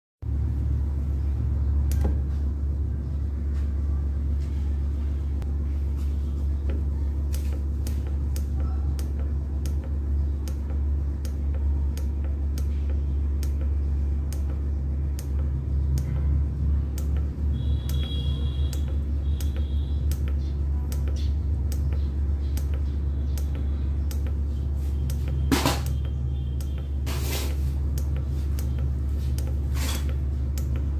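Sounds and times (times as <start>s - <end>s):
diesel generator humming: 0.2s - 30.9s.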